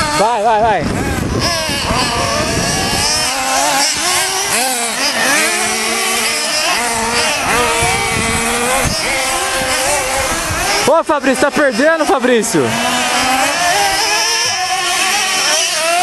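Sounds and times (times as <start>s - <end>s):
small engines buzzing at high revs: 0.0s - 16.0s.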